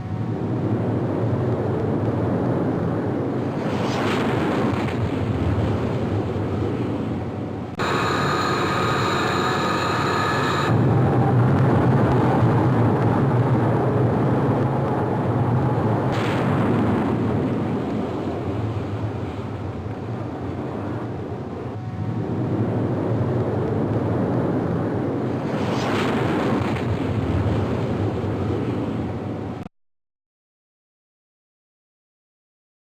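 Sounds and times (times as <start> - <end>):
jet engines rumbling: 0.0 - 29.6.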